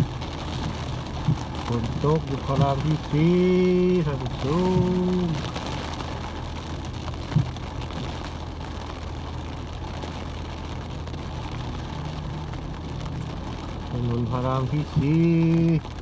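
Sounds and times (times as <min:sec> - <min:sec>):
rain pattering on car roof: 0:00.0 - 0:16.0.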